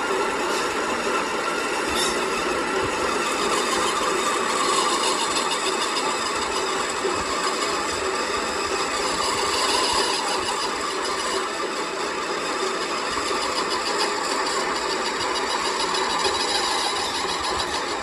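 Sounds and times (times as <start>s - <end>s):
machine mechanical drone: 0.0s - 18.0s.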